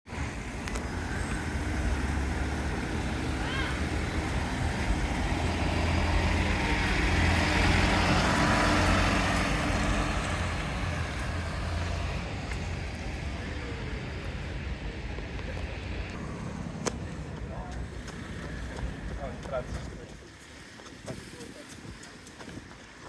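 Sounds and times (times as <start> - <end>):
vehicle engine hum: 0.1 - 23.0.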